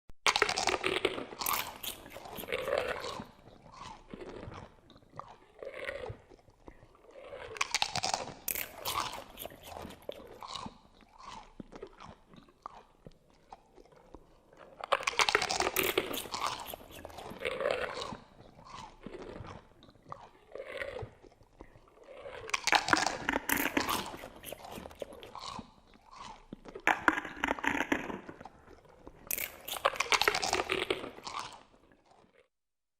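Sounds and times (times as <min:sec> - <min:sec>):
wet chewing with bone crunches: 0:00.2 - 0:32.5.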